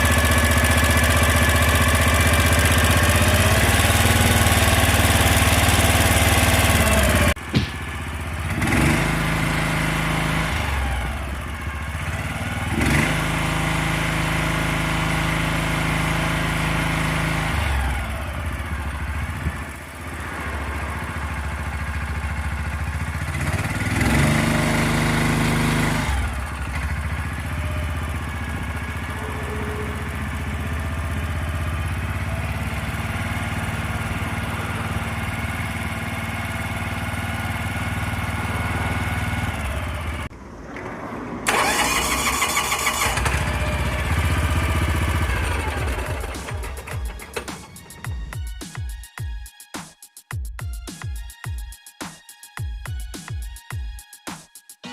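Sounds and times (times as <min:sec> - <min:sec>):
crane engine running: 0:00.0 - 0:48.5.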